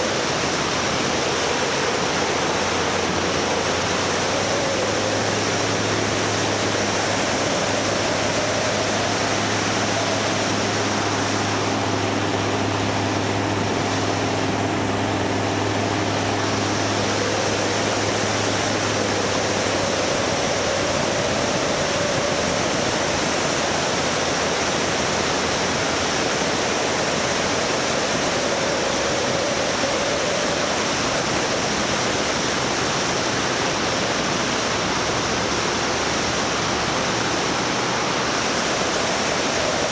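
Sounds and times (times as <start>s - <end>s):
low engine hum: 0.0s - 39.9s
wind rushing over microphone: 0.0s - 39.9s.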